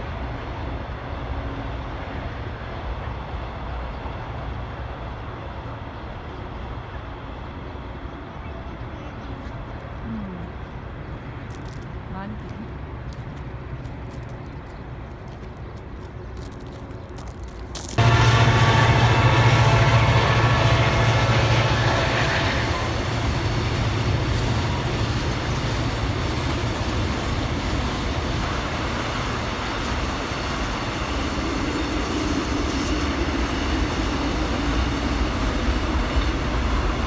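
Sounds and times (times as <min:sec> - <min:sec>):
train passing on rails: 0:00.0 - 0:37.0.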